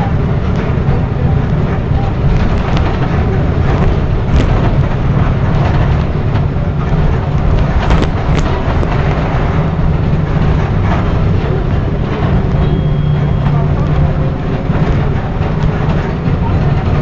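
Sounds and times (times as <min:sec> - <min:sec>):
bus engine and road noise: 0:00.0 - 0:17.0
body knocks and rattles: 0:00.5 - 0:17.0.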